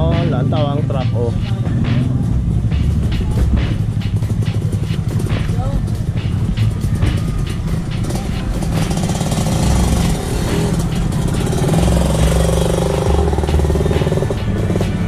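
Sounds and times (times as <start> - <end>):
dirt bike engines running: 0.0 - 15.0.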